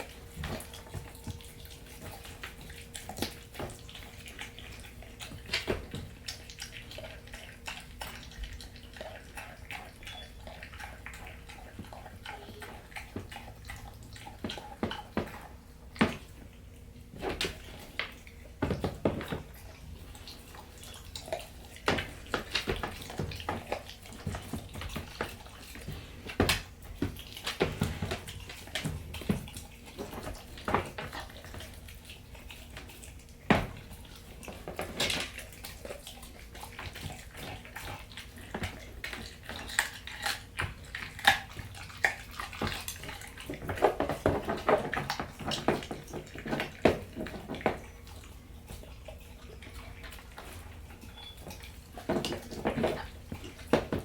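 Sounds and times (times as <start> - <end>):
puppy chewing wetly: 0.0 - 54.0.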